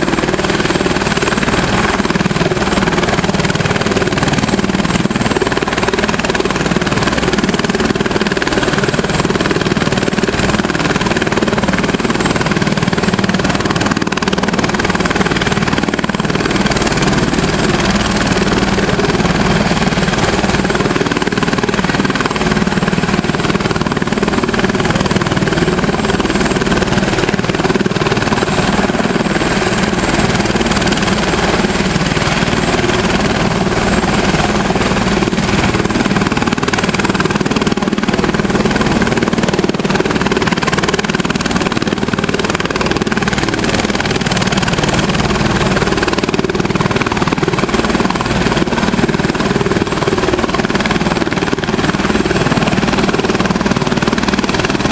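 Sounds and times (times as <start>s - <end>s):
helicopter engine and rotor: 0.0s - 54.9s.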